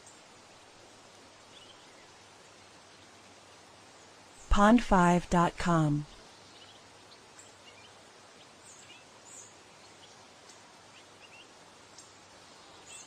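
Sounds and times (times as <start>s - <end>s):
faint songbirds chirping: 0.0s - 4.6s, 6.0s - 13.0s
steady outdoor hiss: 0.0s - 13.0s.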